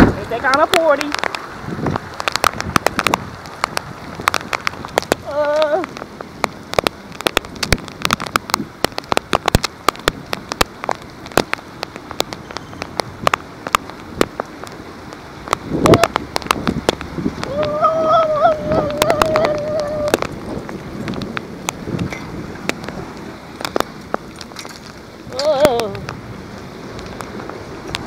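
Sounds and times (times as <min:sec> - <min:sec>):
heavy rain falling: 0:00.0 - 0:28.0
raindrop hits: 0:00.0 - 0:28.0.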